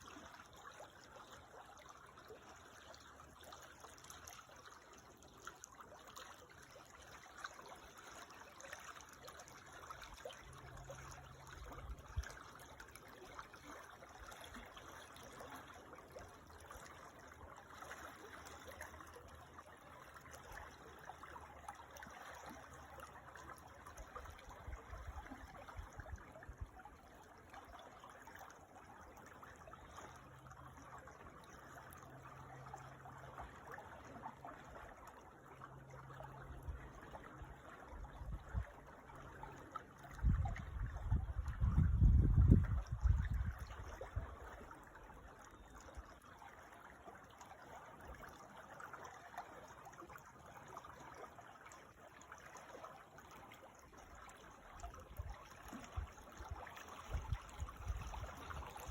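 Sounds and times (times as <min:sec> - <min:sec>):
creek water trickling: 0:00.0 - 0:58.9.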